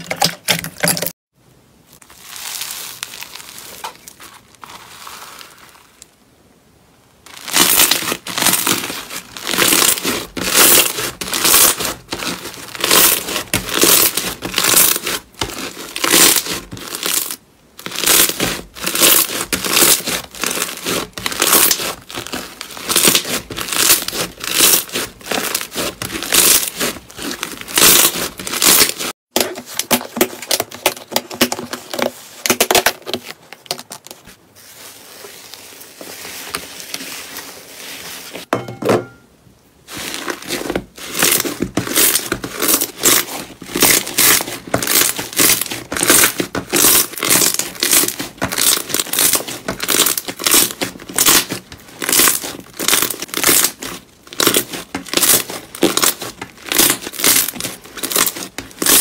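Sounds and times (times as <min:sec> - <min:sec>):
foam-bead slime crackling: 0:01.9 - 0:06.2, 0:07.2 - 0:33.2, 0:39.8 - 0:59.0.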